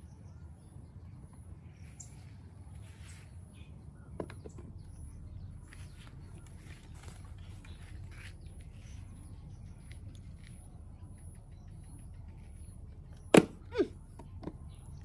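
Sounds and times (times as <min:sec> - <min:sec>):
faint high chirp: 0:00.0 - 0:15.0
steady low rumble: 0:00.0 - 0:15.0.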